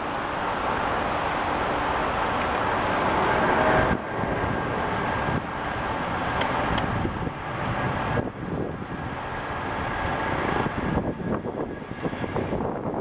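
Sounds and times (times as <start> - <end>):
jet engine rushing: 0.0 - 13.0
wind buffeting microphone: 1.0 - 13.0.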